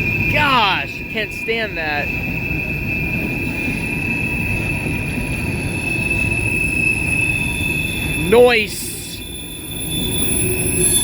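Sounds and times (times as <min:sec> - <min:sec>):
high-pitched wheel squeal: 0:00.0 - 0:11.0
train wheels rumbling: 0:00.0 - 0:11.0.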